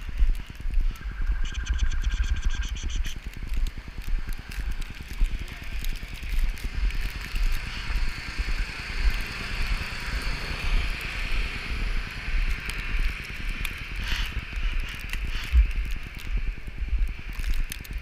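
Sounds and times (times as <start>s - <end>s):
hiss of wind and snow: 0.0s - 18.0s
wind buffeting microphone: 0.0s - 18.0s.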